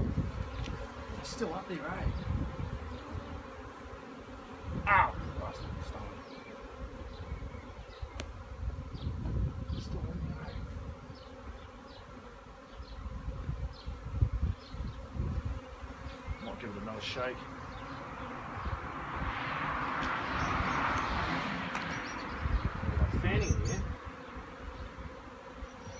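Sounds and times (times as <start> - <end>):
bee swarm buzzing: 0.0 - 25.9.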